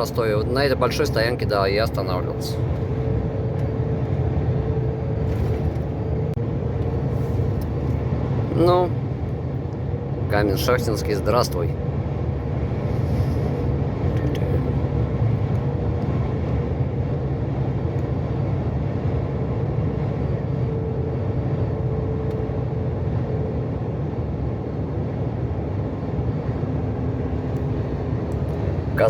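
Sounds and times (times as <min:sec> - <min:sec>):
road noise: 0:00.0 - 0:29.0
truck engine drone: 0:00.0 - 0:29.0.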